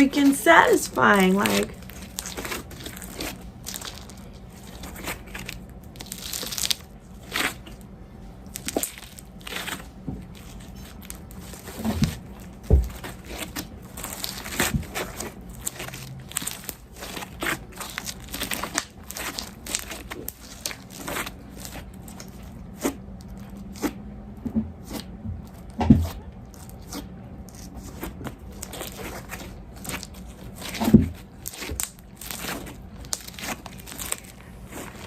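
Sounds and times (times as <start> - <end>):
slime crackling and popping: 0.1 - 23.9, 26.5 - 35.0.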